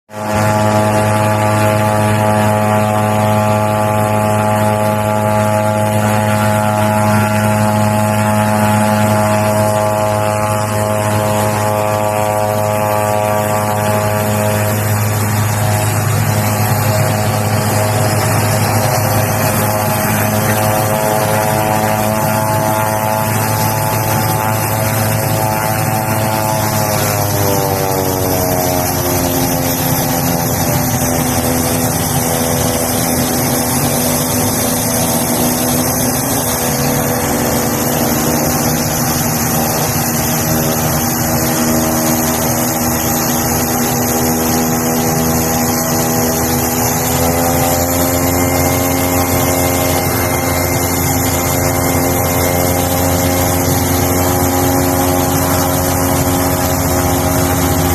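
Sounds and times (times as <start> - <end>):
propeller aircraft engines whining: 0.0 - 57.9.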